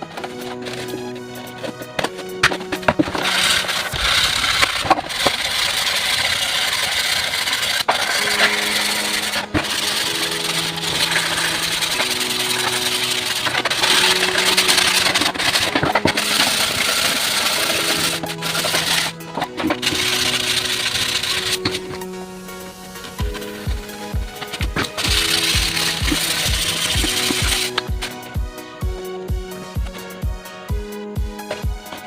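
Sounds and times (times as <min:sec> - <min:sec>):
slow held music notes: 0:00.0 - 0:32.0
tool working wood: 0:00.0 - 0:32.0.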